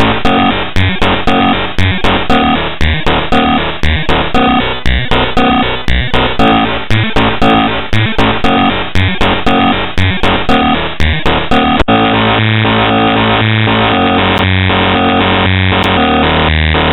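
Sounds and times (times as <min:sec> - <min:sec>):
harsh synthesized electronic music: 0:00.0 - 0:16.9.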